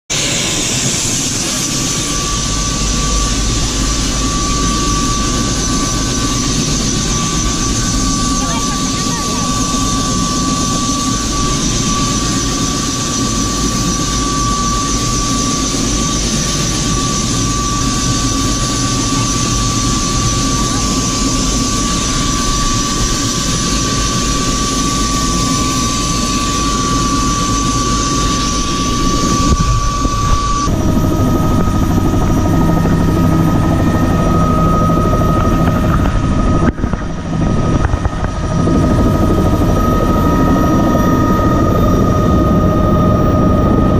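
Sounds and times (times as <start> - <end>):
helicopter turbine whine: 0.1 - 43.9.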